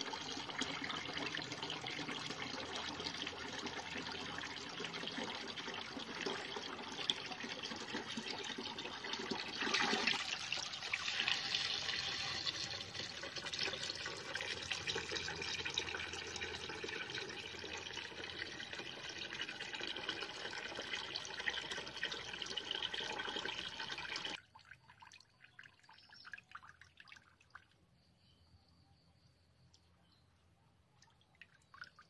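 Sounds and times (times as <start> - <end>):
water pouring into a bucket: 0.0 - 27.8
water trickling and dripping: 0.0 - 28.1, 30.9 - 32.0.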